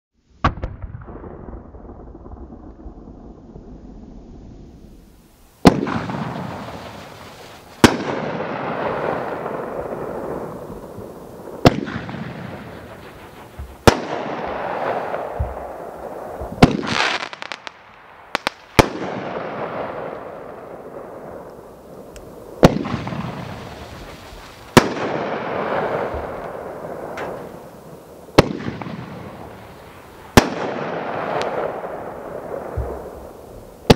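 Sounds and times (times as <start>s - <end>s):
firework stars hissing: 4.5s - 18.9s, 19.8s - 33.9s
firework bangs: 4.6s - 33.9s.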